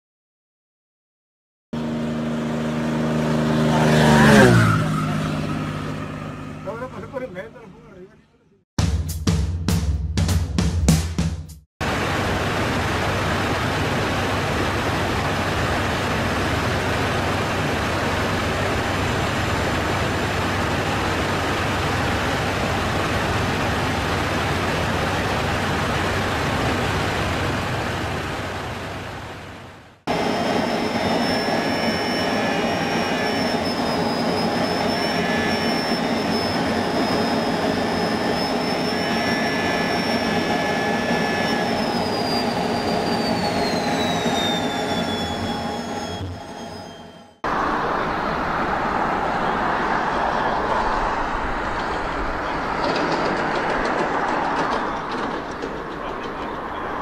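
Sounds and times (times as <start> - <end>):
jet engine whine: 1.8 - 7.9, 11.8 - 57.0
airliner engines roaring: 1.8 - 8.1, 11.8 - 57.0.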